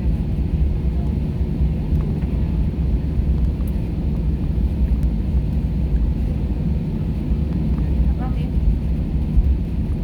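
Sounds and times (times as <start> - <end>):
jet engines roaring on takeoff: 0.0 - 10.0.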